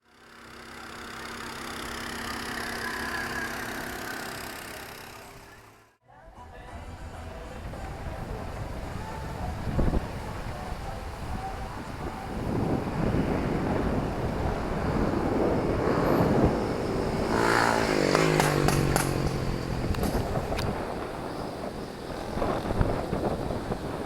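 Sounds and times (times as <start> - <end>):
traffic noise: 0.0 - 24.0
vehicle passing: 0.4 - 5.9, 7.3 - 24.0.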